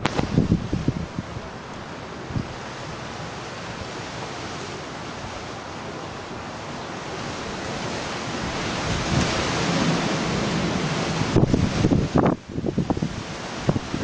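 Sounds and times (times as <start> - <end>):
wind blowing hard: 0.0 - 14.0.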